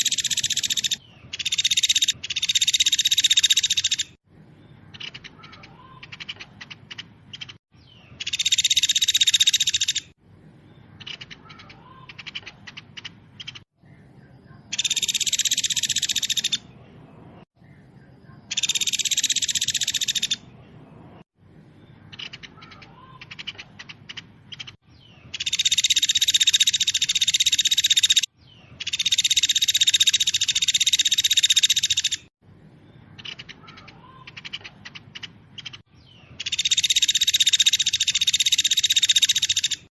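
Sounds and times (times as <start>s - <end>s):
faint bird chirps: 0.0s - 39.9s
songbird trilling song: 0.0s - 39.9s.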